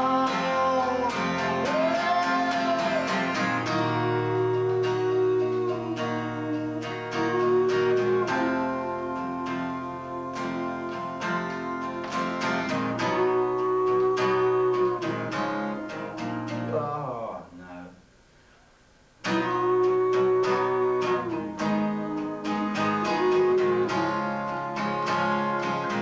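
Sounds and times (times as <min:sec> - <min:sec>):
acoustic guitar strumming: 0:00.0 - 0:17.5, 0:19.2 - 0:26.0.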